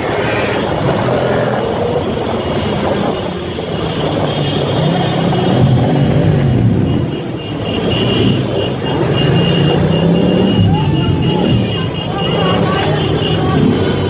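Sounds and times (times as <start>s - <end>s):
motorcycle engines running: 0.0s - 14.0s
road noise: 0.0s - 14.0s.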